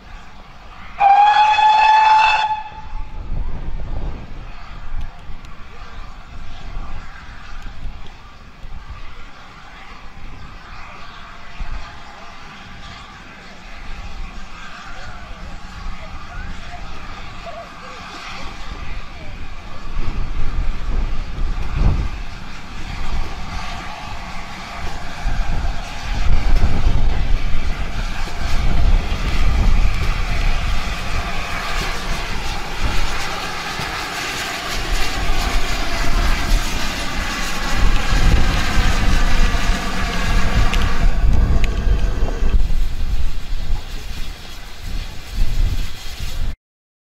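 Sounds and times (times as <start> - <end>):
steam locomotive rumbling past: 0.0 - 46.6.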